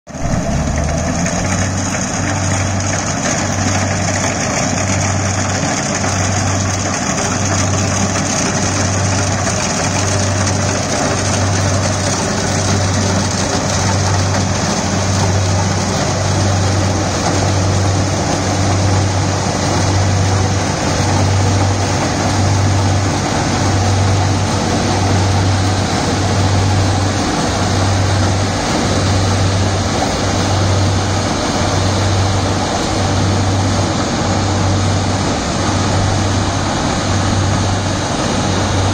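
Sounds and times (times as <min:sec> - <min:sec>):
combine harvester running: 0:00.1 - 0:38.9.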